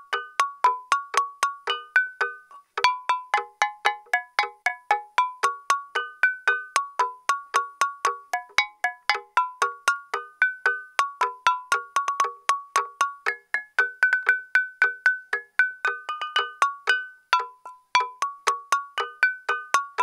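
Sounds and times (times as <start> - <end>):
stone lithophone melody: 0.0 - 20.0.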